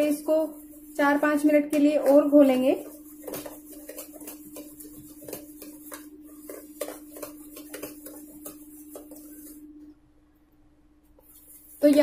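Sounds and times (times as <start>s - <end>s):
batter slapping in steel bowl: 0.0s - 9.7s, 11.2s - 12.0s.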